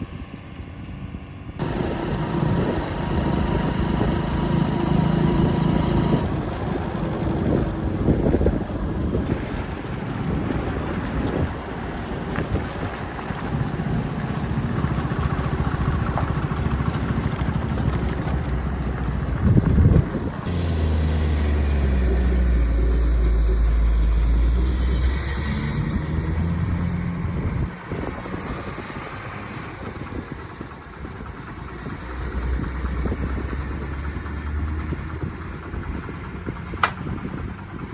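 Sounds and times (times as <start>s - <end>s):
diesel engine running: 0.3s - 37.9s.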